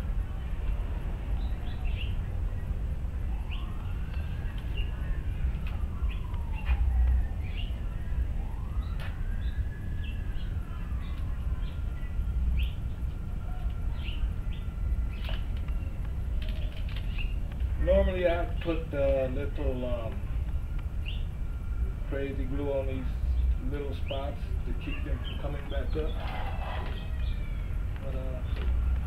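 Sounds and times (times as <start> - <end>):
distant siren wailing: 0.0 - 29.0
steady low rumble: 0.0 - 29.0
birds chirping: 1.2 - 21.5, 22.2 - 29.0.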